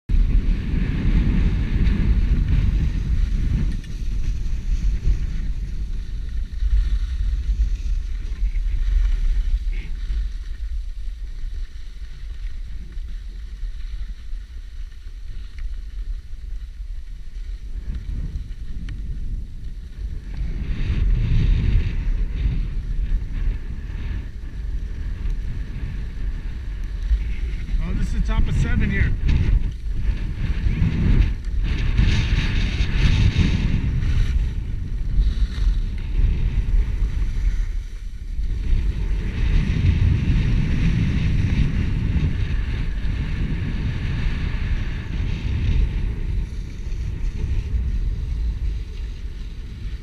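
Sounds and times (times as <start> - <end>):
wind buffeting microphone: 0.0 - 50.0
skis hissing over snow: 1.5 - 50.0.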